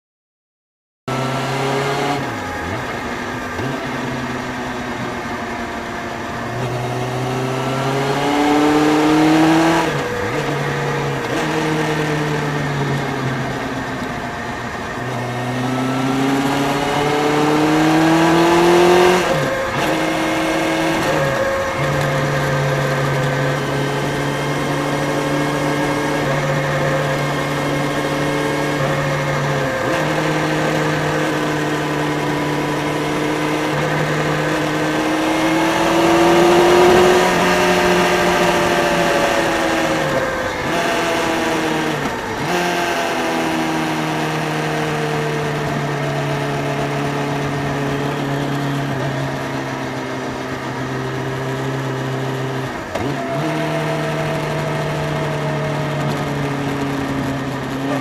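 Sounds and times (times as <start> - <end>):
motorcycle engine accelerating: 1.1 - 58.0.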